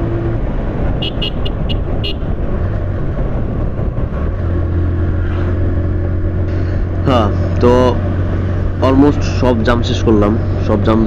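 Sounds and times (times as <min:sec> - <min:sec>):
motorcycle road and engine noise: 0:00.0 - 0:11.0.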